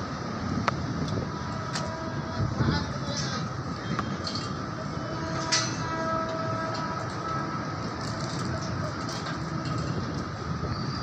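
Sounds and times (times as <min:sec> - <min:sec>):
construction machinery rumbling: 0:00.0 - 0:11.0.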